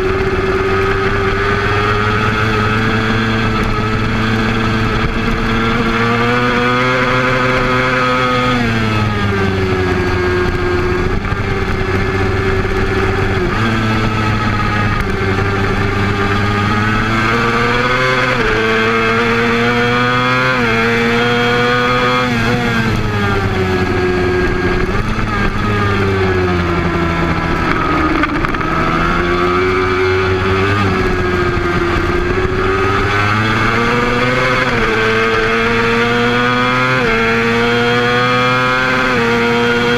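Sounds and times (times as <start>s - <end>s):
racing motorcycle engine: 0.0s - 39.9s
wind rushing over microphone: 0.0s - 39.9s.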